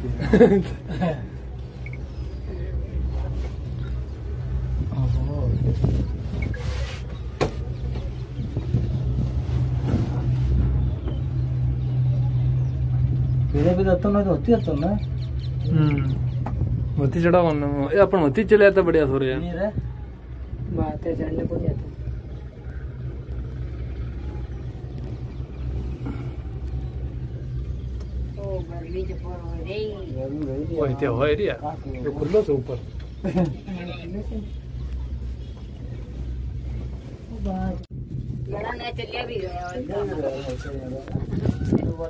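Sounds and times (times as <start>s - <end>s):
low vehicle rumble: 0.0s - 42.0s.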